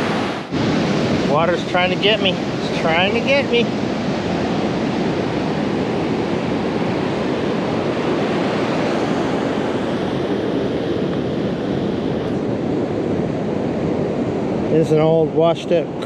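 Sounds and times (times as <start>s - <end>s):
surf breaking on a beach: 0.0s - 16.0s.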